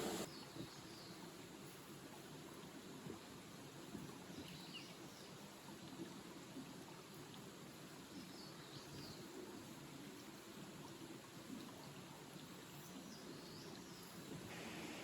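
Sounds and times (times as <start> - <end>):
stream running: 0.0 - 15.0.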